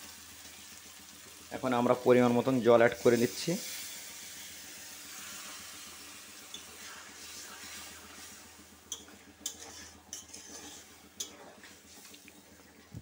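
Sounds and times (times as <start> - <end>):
water hissing in hot pan: 0.0 - 12.9.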